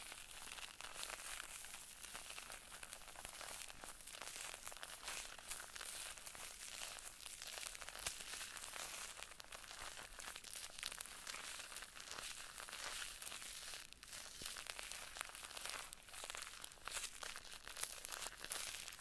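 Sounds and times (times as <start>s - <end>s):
crinkling and scratching: 0.0s - 19.0s.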